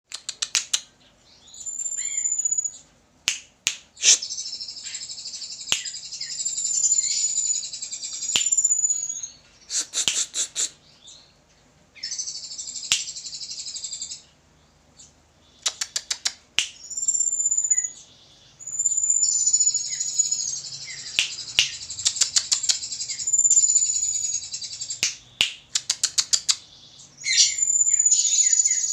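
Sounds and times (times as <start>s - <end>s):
songbird singing: 0.1s - 3.0s, 3.6s - 28.9s.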